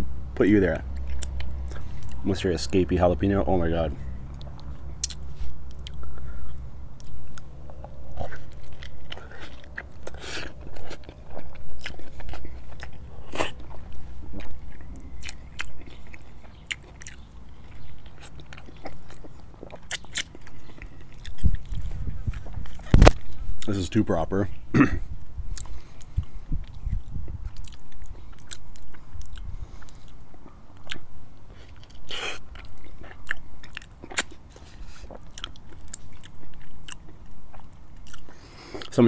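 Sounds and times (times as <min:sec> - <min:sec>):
mouth clicks and bites: 0:00.9 - 0:02.2, 0:04.3 - 0:23.8, 0:25.5 - 0:38.9
person chewing: 0:00.9 - 0:02.2, 0:04.0 - 0:23.8, 0:25.0 - 0:38.9.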